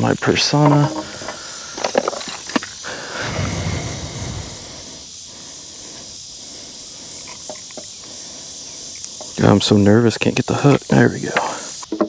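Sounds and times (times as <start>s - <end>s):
crickets and insects chirring: 0.0s - 12.0s.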